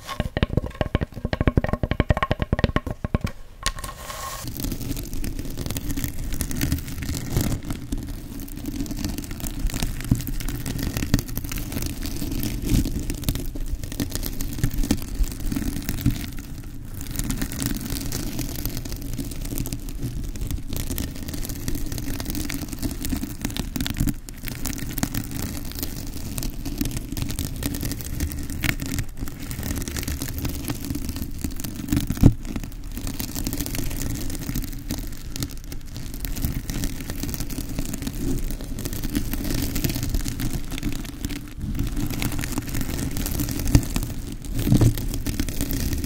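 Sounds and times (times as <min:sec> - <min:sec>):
scratchy crackle of hair curlers: 0:03.1 - 0:46.0.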